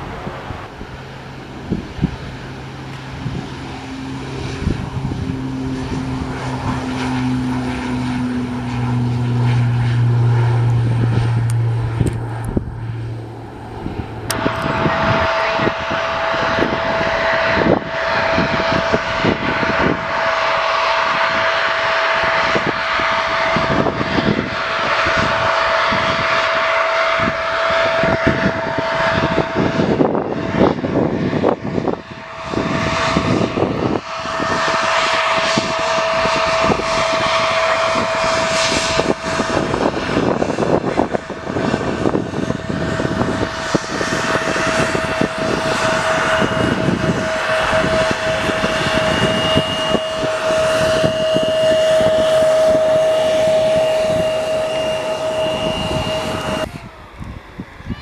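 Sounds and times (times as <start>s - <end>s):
jet turbofan whine: 0.0s - 58.0s
turboprop propeller drone: 0.0s - 58.0s.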